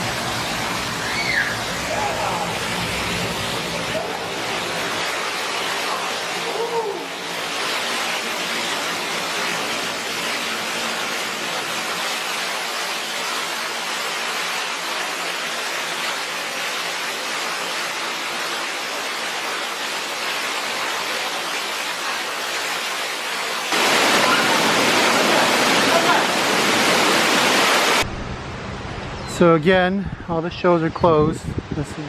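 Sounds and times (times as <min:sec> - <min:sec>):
rushing falling water: 0:00.0 - 0:28.1.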